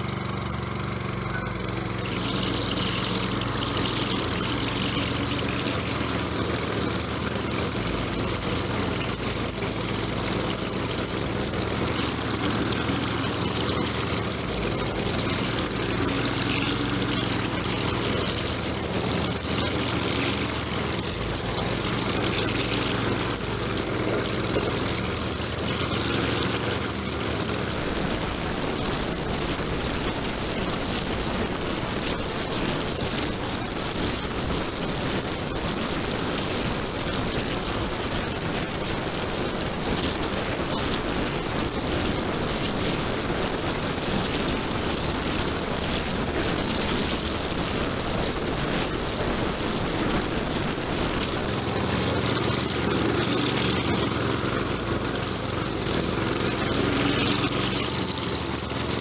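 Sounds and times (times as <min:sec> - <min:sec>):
string trimmer engine running: 0:00.0 - 0:59.0
trimmer line tearing through weeds: 0:00.0 - 0:59.0.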